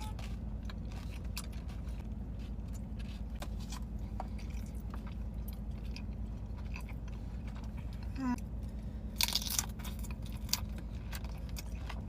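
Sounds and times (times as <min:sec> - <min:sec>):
low hum: 0:00.0 - 0:12.0
person chewing food: 0:00.0 - 0:12.0.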